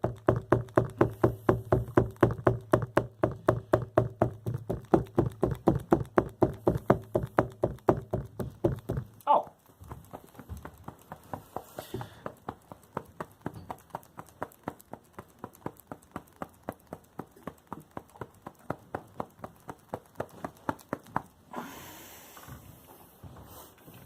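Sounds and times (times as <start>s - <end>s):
rhythmic tapping: 0.0s - 21.6s
rustling: 0.0s - 24.0s.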